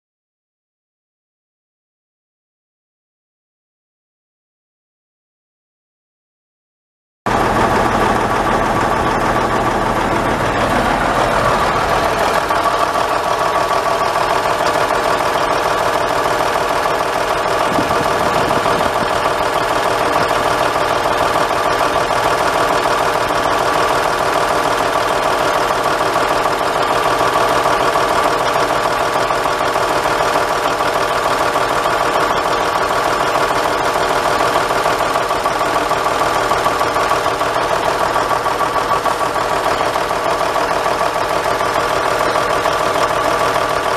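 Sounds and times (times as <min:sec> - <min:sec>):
diesel truck engine idling: 0:07.3 - 0:43.9.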